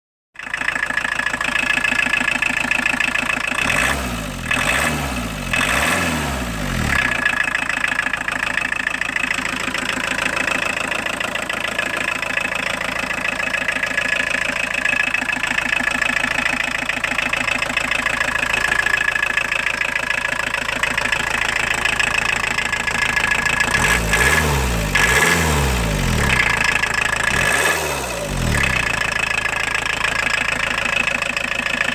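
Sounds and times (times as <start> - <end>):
car engine idling and revving: 0.4 - 31.9.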